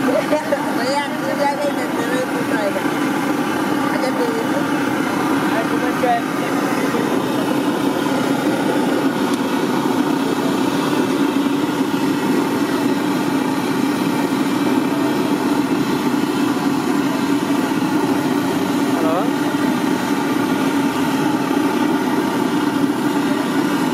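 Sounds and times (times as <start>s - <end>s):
bread sizzling in hot oil: 0.0s - 23.9s.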